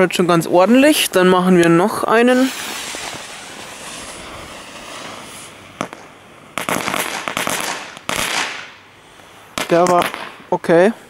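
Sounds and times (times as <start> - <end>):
firework crackling: 0.0 - 11.0
ground firework hissing: 0.7 - 11.0.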